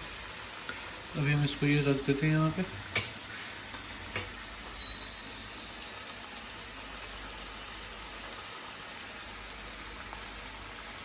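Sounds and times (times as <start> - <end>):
fries sizzling in hot oil: 0.0 - 11.0.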